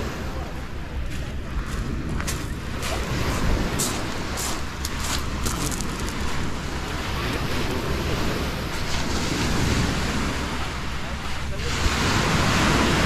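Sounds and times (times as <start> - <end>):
small waves washing onto beach: 0.0 - 13.0
wind buffeting microphone: 0.0 - 13.0.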